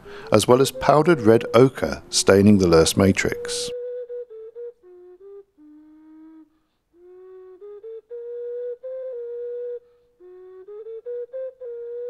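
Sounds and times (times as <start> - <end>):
slow flute-like melody: 0.0 - 12.0.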